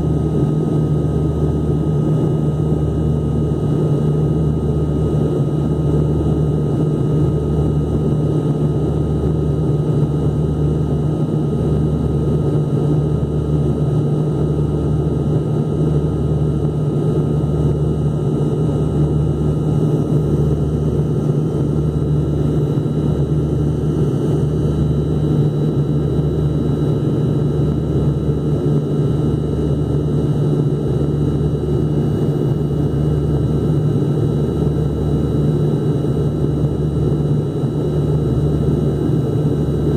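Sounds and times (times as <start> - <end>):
airliner engine drone in cabin: 0.0 - 39.9.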